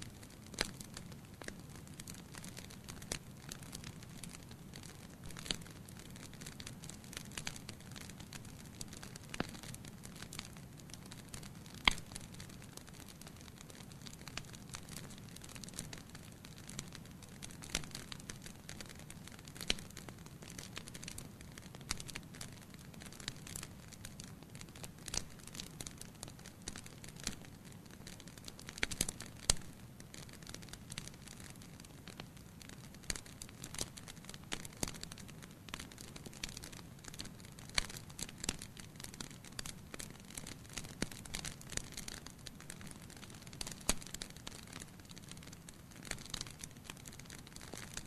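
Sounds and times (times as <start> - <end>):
logs crackling and popping: 0.0 - 48.0.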